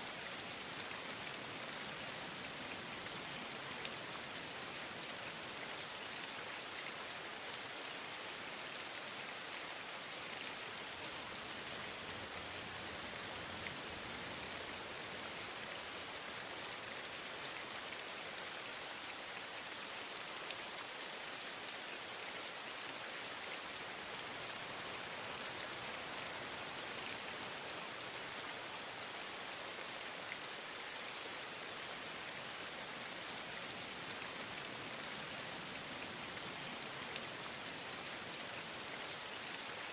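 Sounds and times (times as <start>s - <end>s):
faint raindrop ticks: 0.0s - 7.7s, 9.0s - 21.8s, 22.5s - 30.8s, 31.5s - 39.7s
steady rain hiss: 0.0s - 39.9s.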